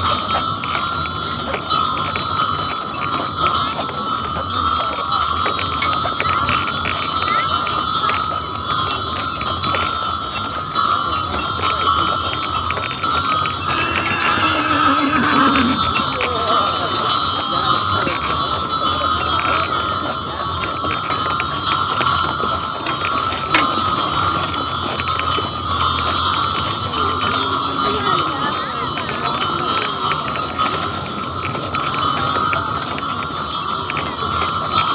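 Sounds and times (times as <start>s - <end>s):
harness bells jingling: 0.0s - 34.9s.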